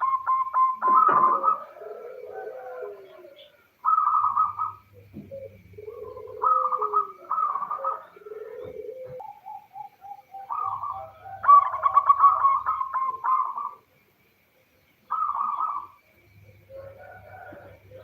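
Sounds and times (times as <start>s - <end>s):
dove cooing: 0.0s - 14.0s, 15.0s - 18.0s
rapid trilled bird call: 0.0s - 18.0s.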